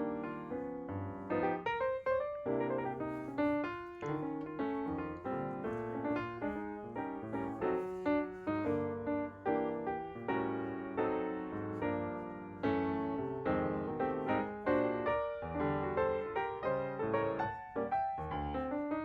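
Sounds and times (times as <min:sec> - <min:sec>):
piano melody with chords: 0:00.0 - 0:19.0.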